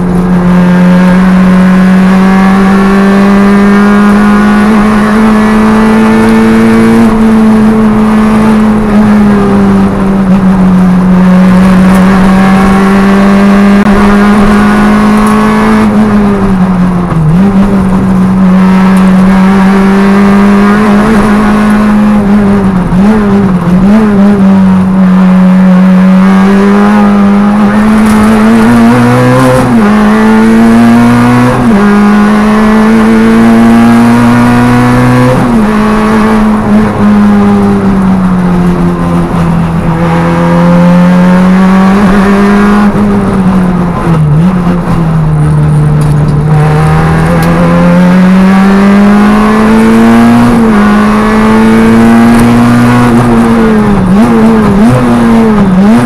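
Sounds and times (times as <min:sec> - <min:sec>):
car engine revving high: 0:00.0 - 0:56.0.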